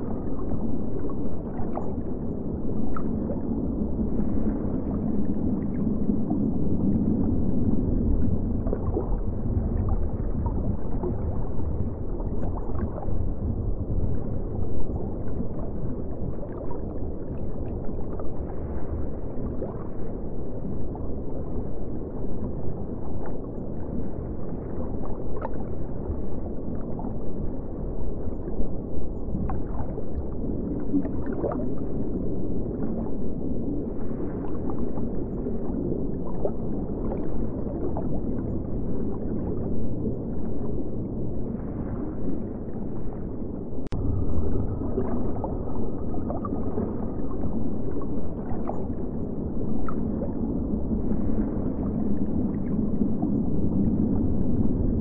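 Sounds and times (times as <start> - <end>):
underwater rumble and churn: 0.0 - 55.0.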